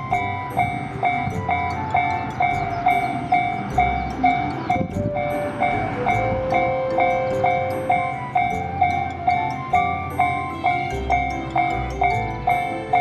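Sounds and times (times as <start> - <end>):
level crossing bell ringing: 0.0 - 13.0.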